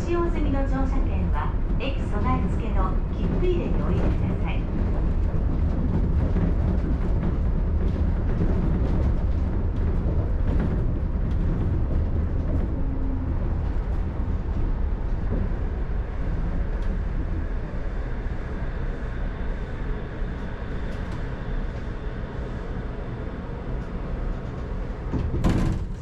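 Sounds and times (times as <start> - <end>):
monorail car rumbling: 0.0 - 26.0.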